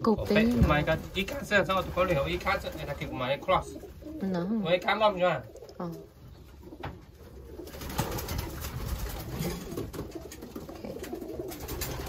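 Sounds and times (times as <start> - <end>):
pigeons cooing: 0.6 - 12.0.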